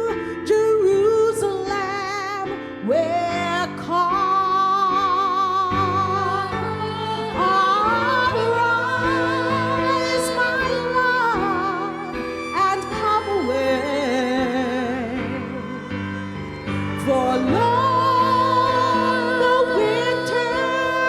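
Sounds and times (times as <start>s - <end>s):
keyboard accompaniment: 0.0s - 21.0s
woman singing gospel ballad: 0.4s - 15.7s, 17.0s - 21.0s.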